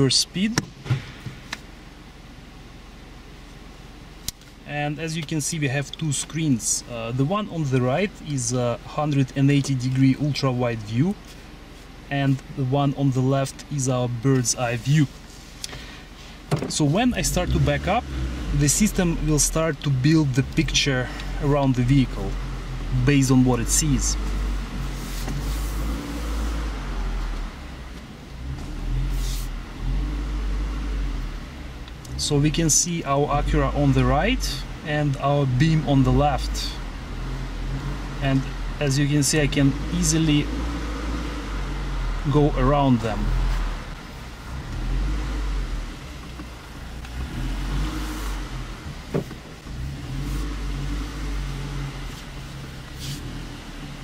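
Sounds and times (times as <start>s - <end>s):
car engine running at low revs: 0.0s - 54.0s.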